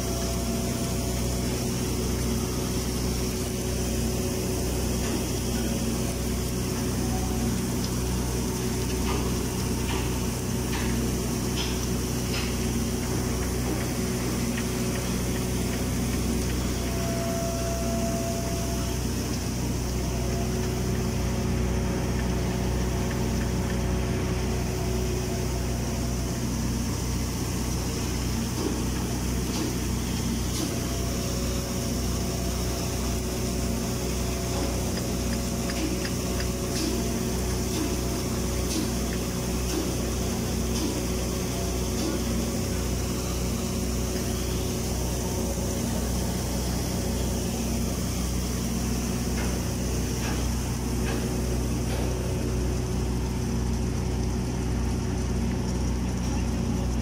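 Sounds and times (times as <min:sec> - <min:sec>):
welding machine hum: 0:00.0 - 0:57.0.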